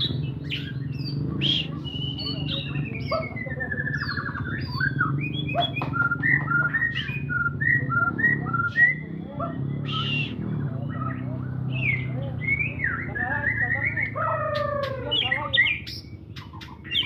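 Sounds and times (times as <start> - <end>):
bird singing whistled notes: 0.0 - 17.0.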